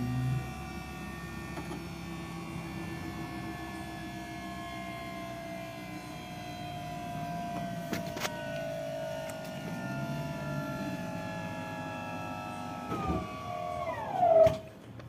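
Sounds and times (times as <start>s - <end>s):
lifting piston motor humming and whining: 0.0s - 15.0s
low hum: 0.0s - 15.0s.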